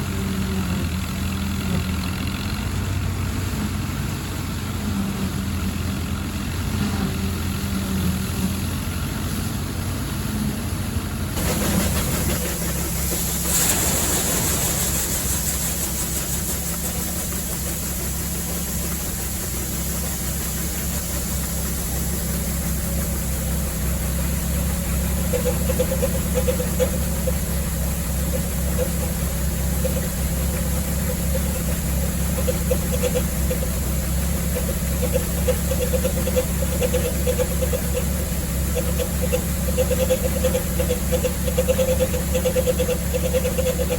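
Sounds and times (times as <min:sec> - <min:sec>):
combine harvester running: 0:00.0 - 0:43.9
tractor engine running: 0:00.0 - 0:43.9.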